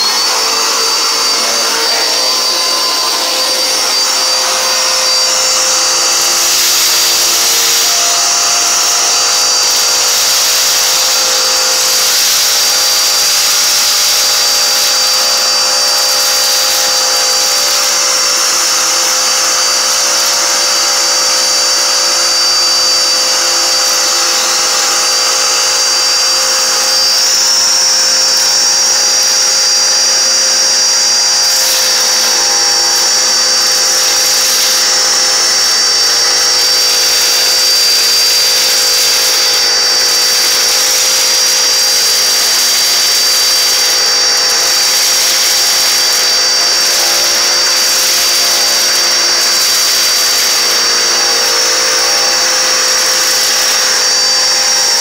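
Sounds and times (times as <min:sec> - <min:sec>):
handheld vacuum running: 0:00.0 - 0:55.0.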